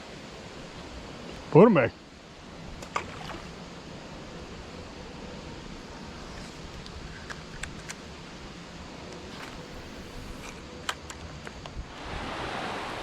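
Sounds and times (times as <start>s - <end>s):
faint outdoor hiss: 0.0s - 13.0s
rain shower hiss: 0.0s - 13.0s.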